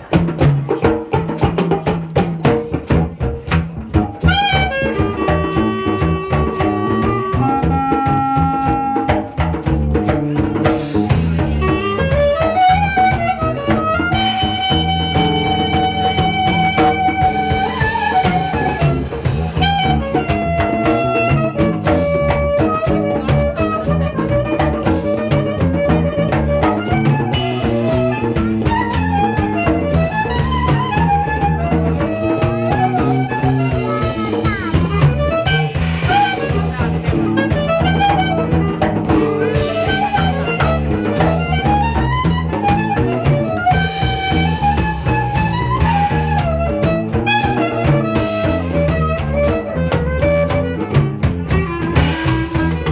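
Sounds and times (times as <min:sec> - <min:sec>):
drum kit with cymbals: 0:00.0 - 0:52.9
lead instrument melody: 0:00.0 - 0:52.9
walking bass: 0:00.0 - 0:52.9.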